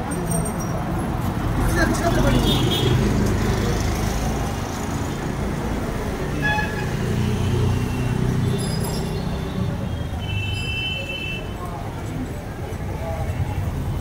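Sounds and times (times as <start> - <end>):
passing engines rumble: 0.0 - 14.0.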